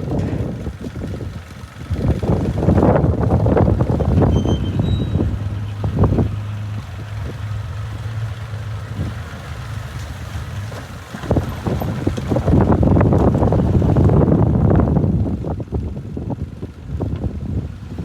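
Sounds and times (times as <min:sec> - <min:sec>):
heavy diesel engine running: 0:00.0 - 0:18.0
wind buffeting microphone: 0:00.0 - 0:18.0.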